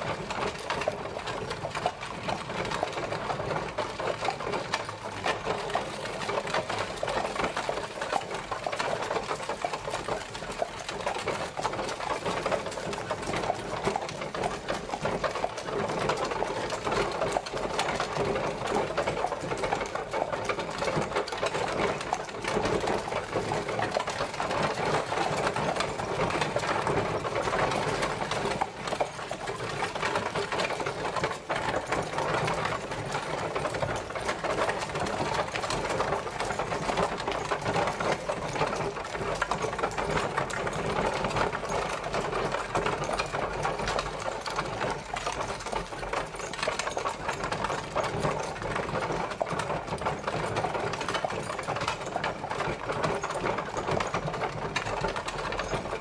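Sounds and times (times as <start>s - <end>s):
horse-drawn carriage clattering: 0.0s - 56.0s.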